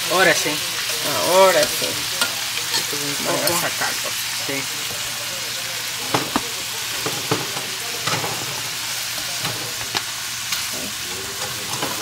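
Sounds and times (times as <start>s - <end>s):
shrimp sizzling in oil: 0.0s - 12.0s.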